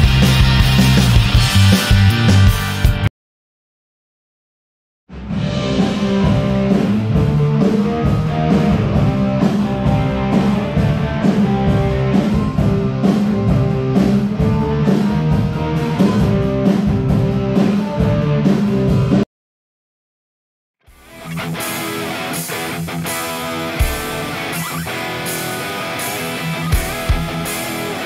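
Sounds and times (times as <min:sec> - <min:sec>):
drum kit beat: 0:00.0 - 0:03.1, 0:05.3 - 0:19.2, 0:20.9 - 0:28.0
electric guitar: 0:00.0 - 0:03.1, 0:05.4 - 0:19.2, 0:20.9 - 0:28.0.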